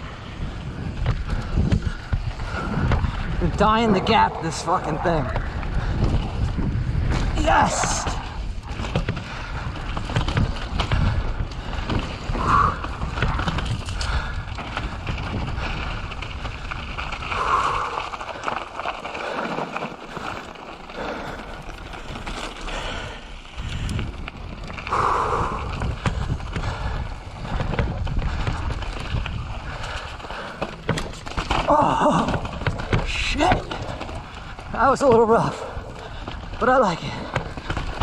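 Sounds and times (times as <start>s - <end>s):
bike tyre and trail noise: 0.0s - 38.0s
wind buffeting microphone: 0.0s - 38.0s.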